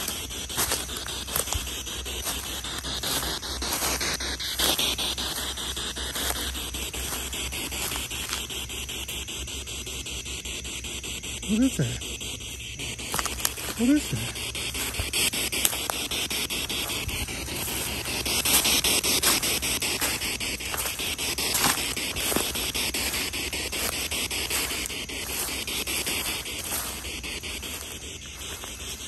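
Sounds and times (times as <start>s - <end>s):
radio static hiss: 0.0s - 29.0s.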